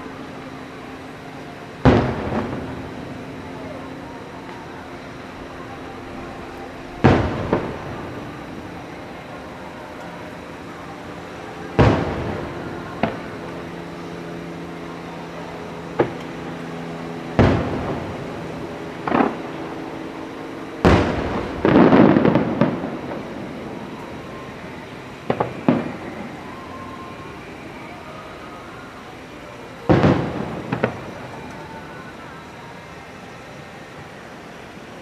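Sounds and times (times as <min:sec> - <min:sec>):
fireworks booming: 0:00.0 - 0:35.0
rapid crackling reports: 0:00.0 - 0:35.0.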